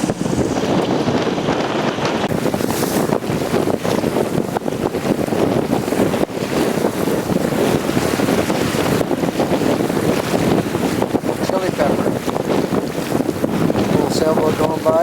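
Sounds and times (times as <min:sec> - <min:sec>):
water moving past boat: 0:00.0 - 0:15.0
wind buffeting microphone: 0:00.0 - 0:15.0.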